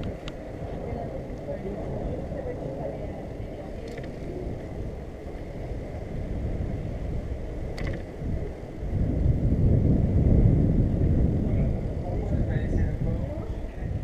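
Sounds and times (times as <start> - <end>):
bicycle tyre rumble on asphalt: 0.0 - 14.0
wind rushing over microphone: 0.0 - 14.0.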